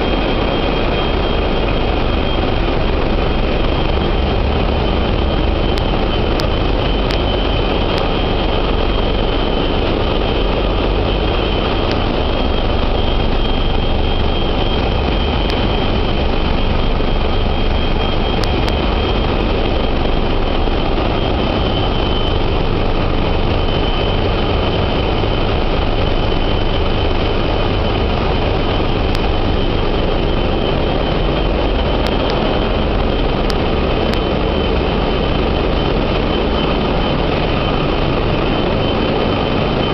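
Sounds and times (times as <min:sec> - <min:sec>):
engine room machinery drone: 0:00.0 - 0:39.9
high even whine: 0:00.0 - 0:39.9.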